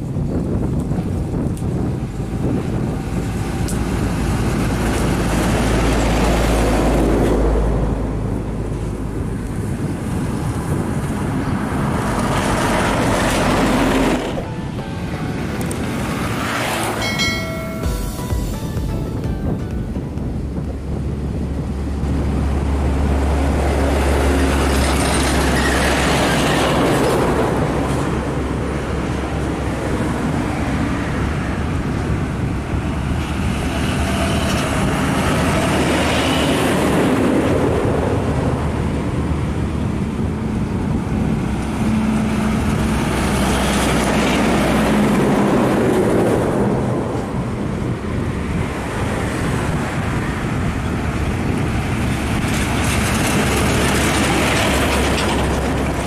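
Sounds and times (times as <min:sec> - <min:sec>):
heavy trucks driving past: 0:01.2 - 0:56.0.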